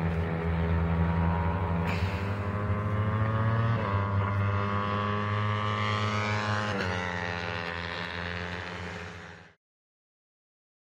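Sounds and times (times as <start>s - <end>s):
motorcycle engines racing: 0.0s - 9.6s.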